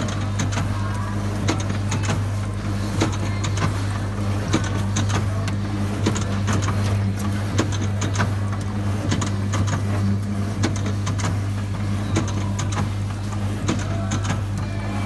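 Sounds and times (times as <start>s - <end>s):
machine clicks and knocks: 0.0s - 14.7s
motor hum: 0.0s - 15.0s.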